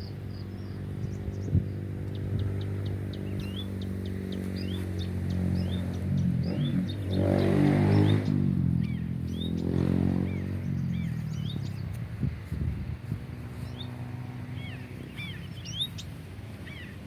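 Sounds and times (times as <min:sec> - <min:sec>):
small birds chirping: 0:00.0 - 0:17.0
passing vehicle engine: 0:00.1 - 0:17.0.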